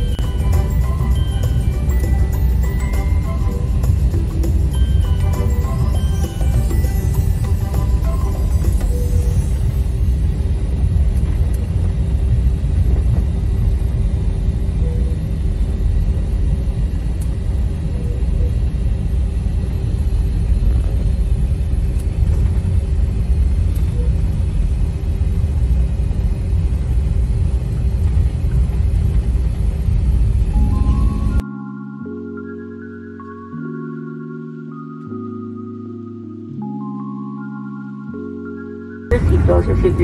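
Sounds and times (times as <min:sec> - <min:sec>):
airliner engine rumble: 0:00.0 - 0:40.0.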